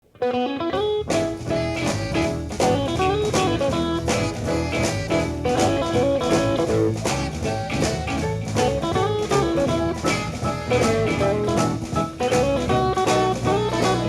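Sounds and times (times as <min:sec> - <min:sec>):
blues guitar lead melody: 0:00.0 - 0:14.0
bass line: 0:00.8 - 0:14.0
drums keeping steady beat: 0:01.0 - 0:14.0.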